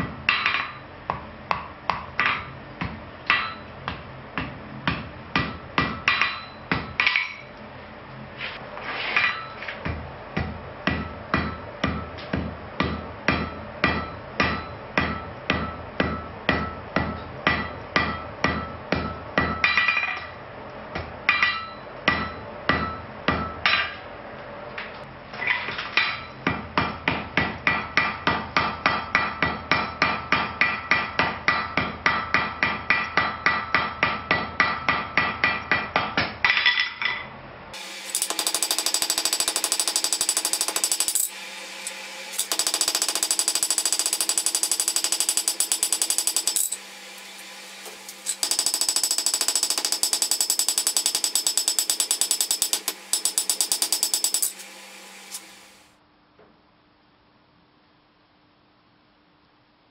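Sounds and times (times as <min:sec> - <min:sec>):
hammer striking iron on anvil: 0:00.0 - 0:07.5, 0:09.3 - 0:20.4, 0:21.0 - 0:24.0, 0:26.0 - 0:36.7, 0:37.8 - 0:55.9.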